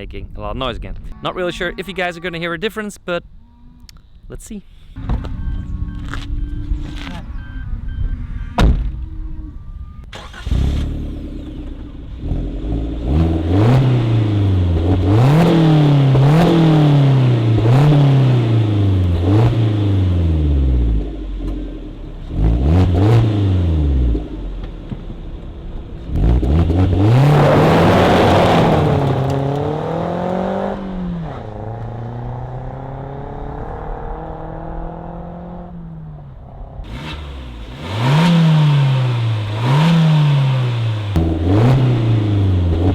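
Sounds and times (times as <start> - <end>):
car engine idling: 4.0 - 42.9
car engine revving: 5.0 - 42.9.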